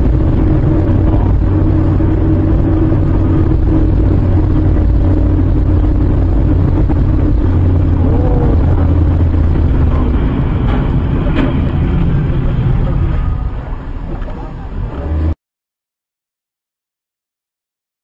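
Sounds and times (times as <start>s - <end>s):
constant low hum: 0.0s - 15.4s
road noise: 0.0s - 15.4s
vehicle engine droning: 0.0s - 15.4s.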